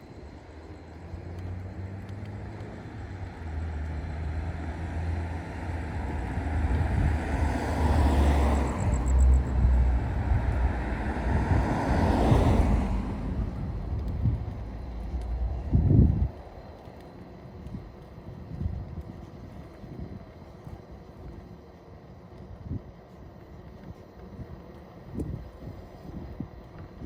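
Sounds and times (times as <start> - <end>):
wind rushing over microphone: 4.3 - 21.5, 22.4 - 27.0.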